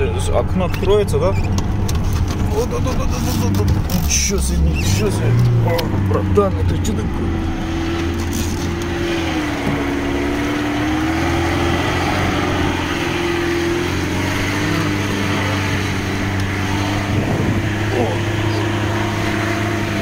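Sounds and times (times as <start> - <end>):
car engine running under load: 0.0 - 20.0.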